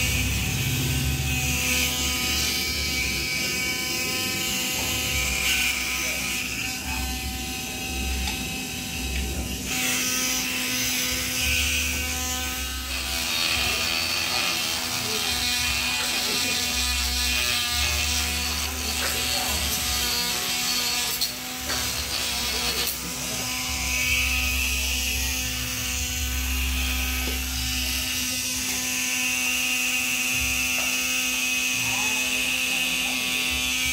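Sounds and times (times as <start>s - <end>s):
grinder motor whining: 0.0s - 33.9s.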